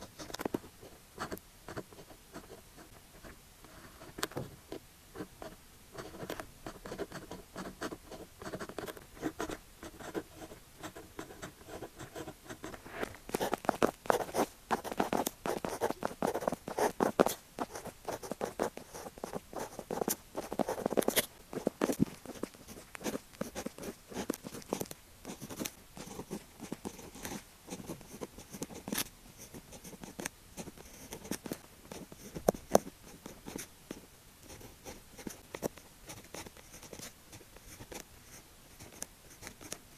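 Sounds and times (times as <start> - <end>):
pen scratching on paper: 5.2 - 39.8.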